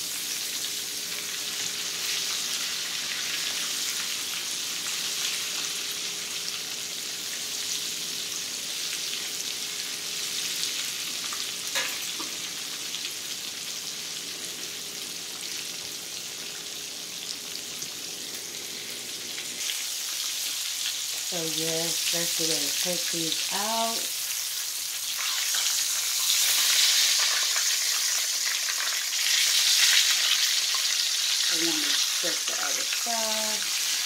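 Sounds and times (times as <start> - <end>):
meat sizzling in hot oil: 0.0 - 34.0.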